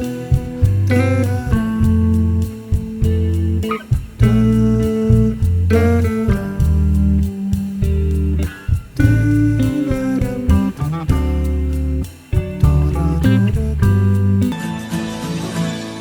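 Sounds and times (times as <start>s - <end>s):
deep bass line: 0.0s - 14.6s
guitar chords: 0.0s - 16.0s.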